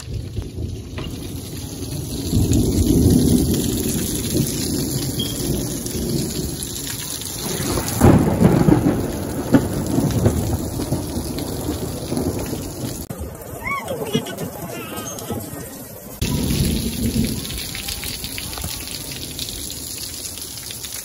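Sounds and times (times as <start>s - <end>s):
heavy rain splashing on concrete: 0.0s - 21.0s
thunder rumbling: 0.0s - 21.0s.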